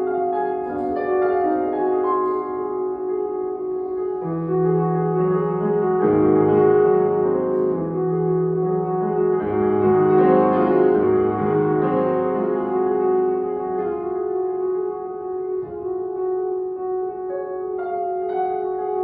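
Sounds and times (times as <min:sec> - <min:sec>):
solo classical piano: 0:00.0 - 0:19.0.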